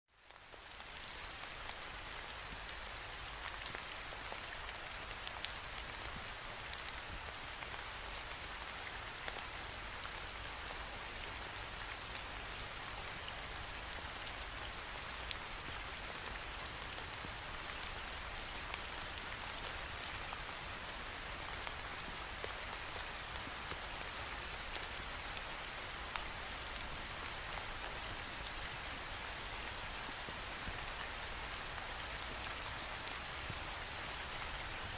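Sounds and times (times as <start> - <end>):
rain on a window pane: 0.1 - 34.9.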